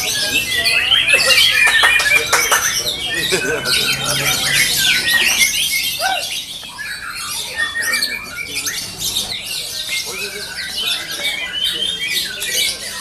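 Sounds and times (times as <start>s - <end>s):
birds singing over one another: 0.0s - 13.0s.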